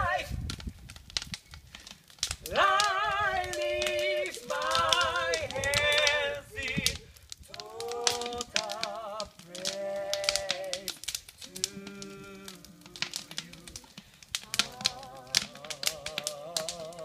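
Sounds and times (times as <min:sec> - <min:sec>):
sharp crackling clicks: 0:00.4 - 0:17.0.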